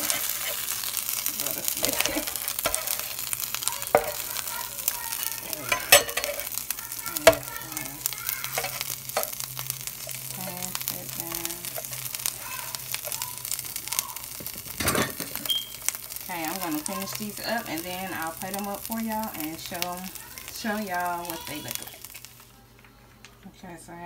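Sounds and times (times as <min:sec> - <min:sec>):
butter sizzling in a pan: 0:00.0 - 0:23.4.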